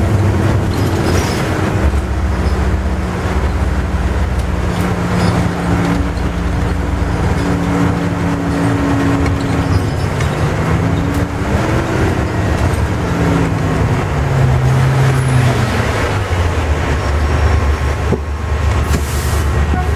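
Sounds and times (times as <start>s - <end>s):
bus engine and road noise: 0.0s - 19.9s.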